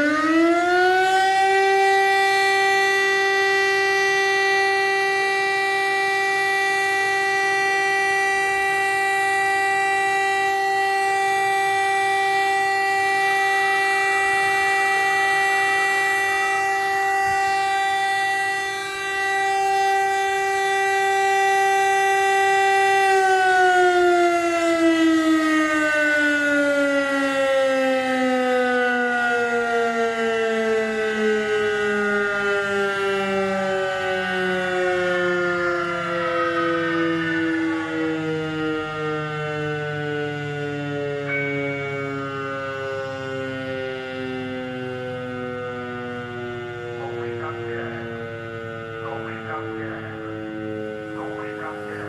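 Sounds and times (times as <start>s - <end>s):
siren steady loud tone: 0.0s - 52.0s.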